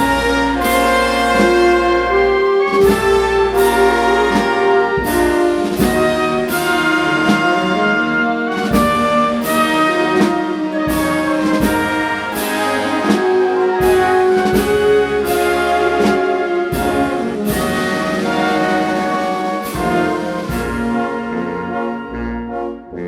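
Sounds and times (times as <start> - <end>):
trumpets and trombones chords: 0.0 - 23.0.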